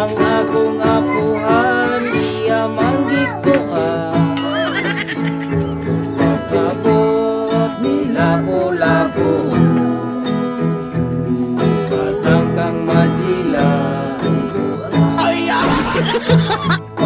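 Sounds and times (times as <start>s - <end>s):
acoustic guitar strumming: 0.0s - 17.0s
man singing: 0.0s - 17.0s.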